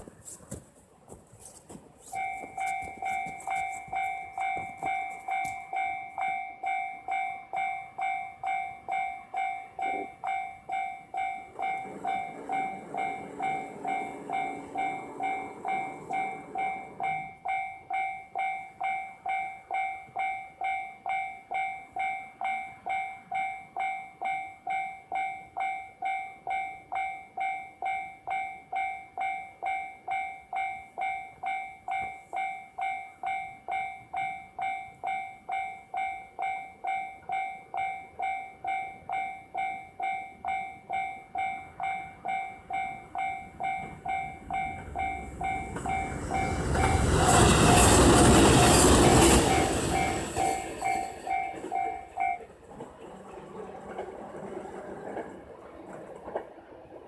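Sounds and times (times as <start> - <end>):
railcar passing with rumble: 0.0 - 57.0
level-crossing warning bell ringing: 2.0 - 52.6.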